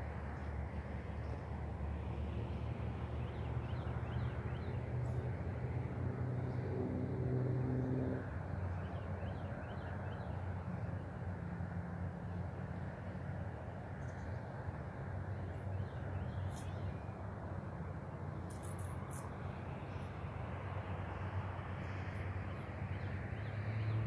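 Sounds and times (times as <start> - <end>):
low rumble of traffic: 0.0 - 24.0
passing engine hum: 0.0 - 24.0.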